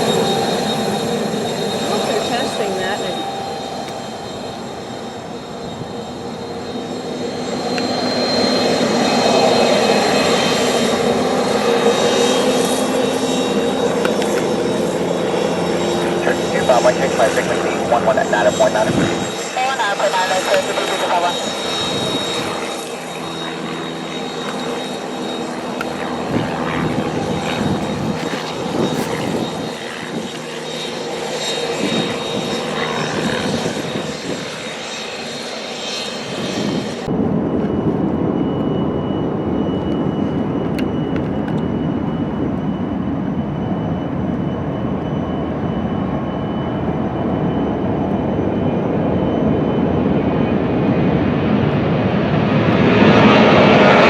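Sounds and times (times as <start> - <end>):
deep jet engine rumble: 0.0 - 54.0
jet engine whine: 0.0 - 54.0.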